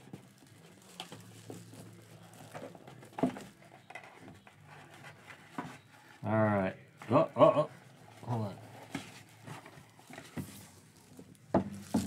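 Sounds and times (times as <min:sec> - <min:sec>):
cardboard and plastic rustling: 0:00.0 - 0:06.2, 0:08.0 - 0:12.0.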